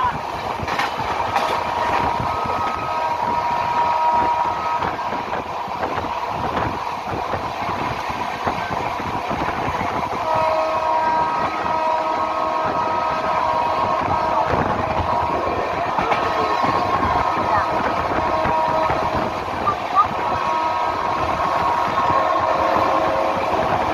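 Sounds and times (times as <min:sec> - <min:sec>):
rushing air: 0:00.0 - 0:23.9
train wheels clattering on rails: 0:00.0 - 0:23.9.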